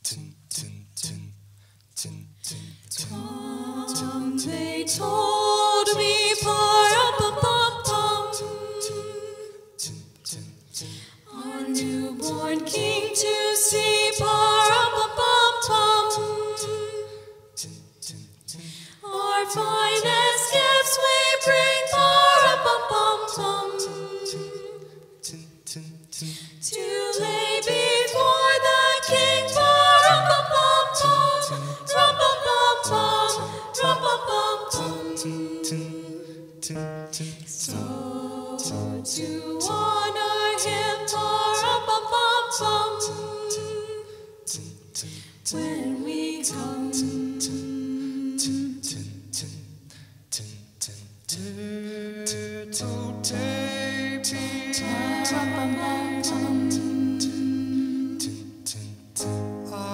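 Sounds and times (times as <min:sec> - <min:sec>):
choir singing a cappella: 0:00.0 - 0:01.4, 0:02.0 - 0:59.9.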